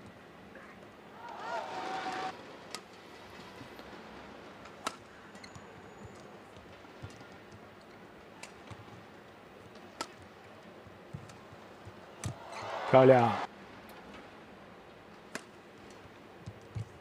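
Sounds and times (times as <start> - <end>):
faint arena background: 0.0 - 17.0.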